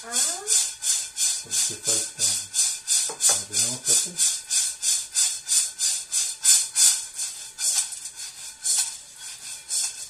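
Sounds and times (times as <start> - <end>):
coffee beans rattling in pan: 0.0 - 10.0.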